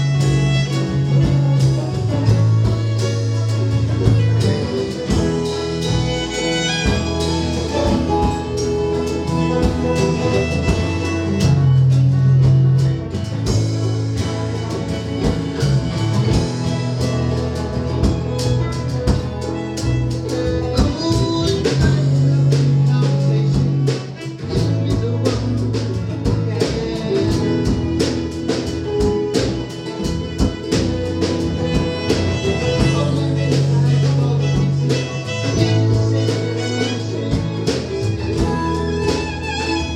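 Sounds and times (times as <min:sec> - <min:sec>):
band playing instrumental: 0:00.0 - 0:39.9.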